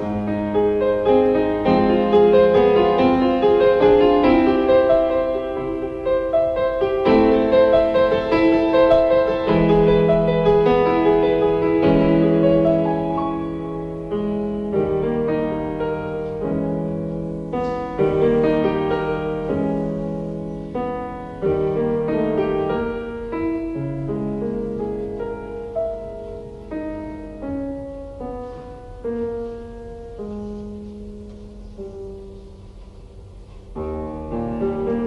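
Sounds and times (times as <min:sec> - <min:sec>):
slow solo piano chords: 0:00.0 - 0:35.0.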